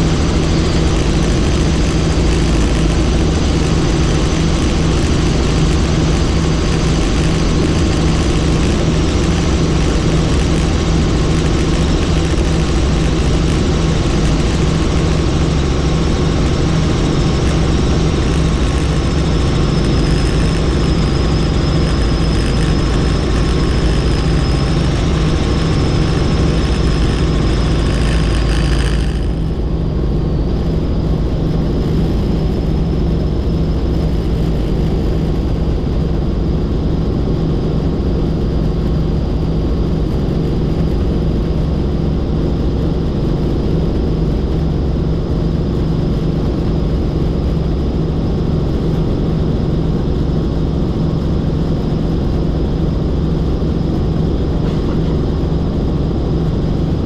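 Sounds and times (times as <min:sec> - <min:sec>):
helicopter engine and rotor drone: 0:00.0 - 0:57.0
thin high whine: 0:00.0 - 0:57.0.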